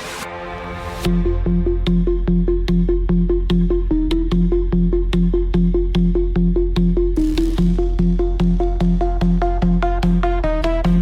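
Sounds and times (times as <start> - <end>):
bass-boosted electronic dance music: 0.0 - 11.0.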